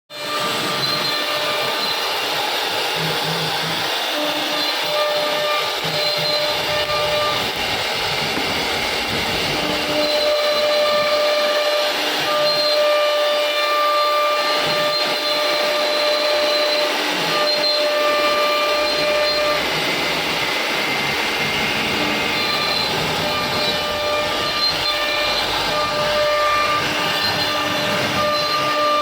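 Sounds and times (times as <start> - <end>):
router spindle whine: 0.1 - 29.0
held tones: 0.3 - 29.0.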